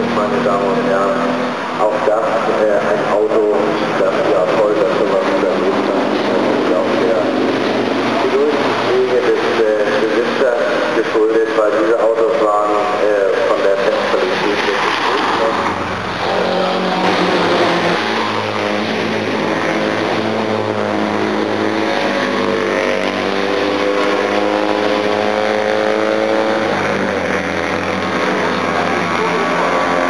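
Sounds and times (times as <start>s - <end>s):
racing car engines: 0.0s - 30.0s.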